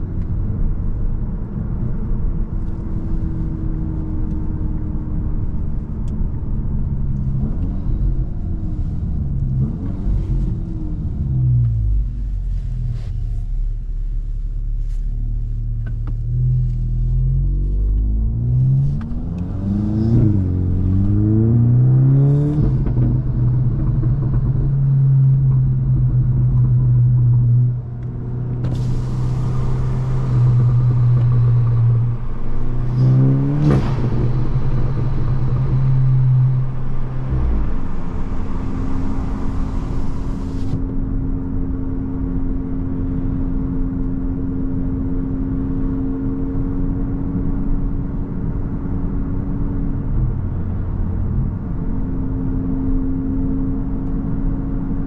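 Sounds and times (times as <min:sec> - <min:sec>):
car engine revving while driving: 0:00.0 - 0:12.4, 0:15.8 - 0:55.0.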